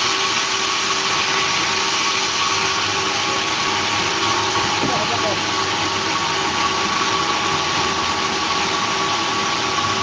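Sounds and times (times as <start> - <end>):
sawmill machinery running: 0.0 - 10.0.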